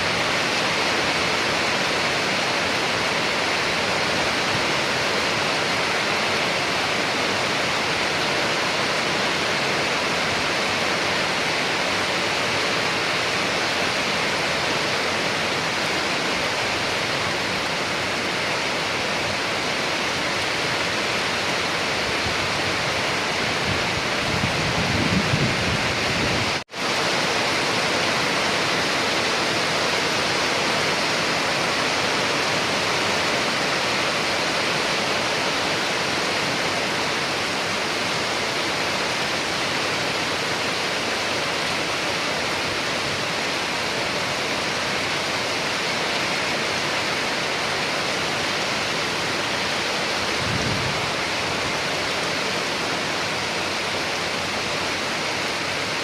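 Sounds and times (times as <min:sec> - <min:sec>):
steady rainfall hiss: 0:00.0 - 0:56.0.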